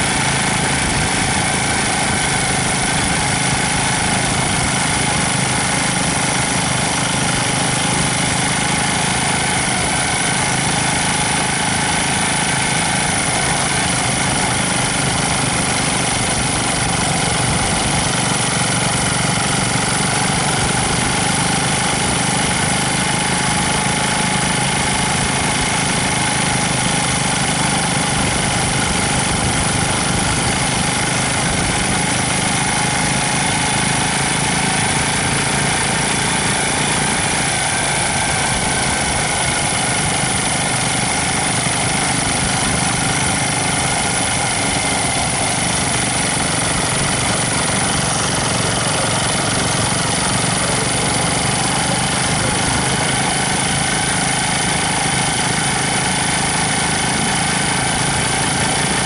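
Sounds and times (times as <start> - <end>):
motorcycle engine hum: 0.0 - 59.0
wind and road noise: 0.0 - 59.0.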